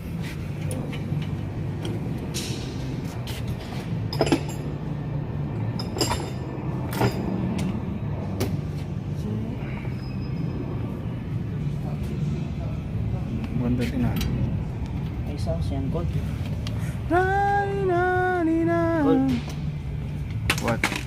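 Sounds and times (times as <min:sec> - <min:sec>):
drivetrain low hum: 0:00.0 - 0:20.6.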